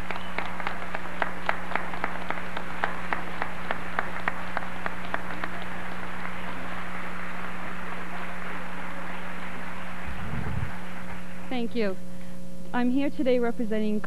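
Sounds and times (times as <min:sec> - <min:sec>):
people clapping: 0:00.0 - 0:11.8
steady low hum: 0:00.0 - 0:14.0.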